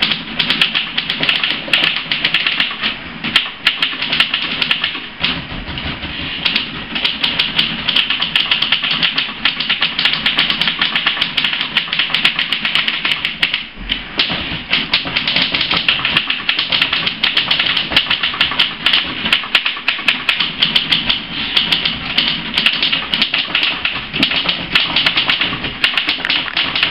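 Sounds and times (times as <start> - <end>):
typewriter keystrokes clattering: 0.0 - 26.9.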